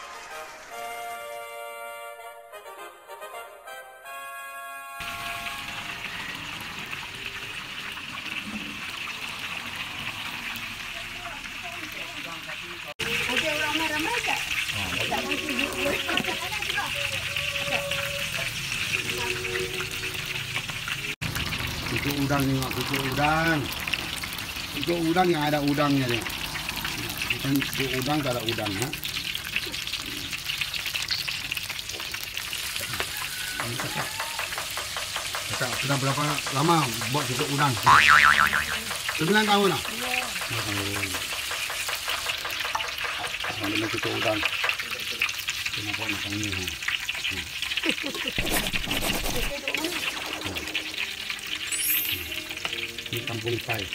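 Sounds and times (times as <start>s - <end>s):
oil sizzling while deep-frying: 0.0s - 2.8s, 5.0s - 53.9s.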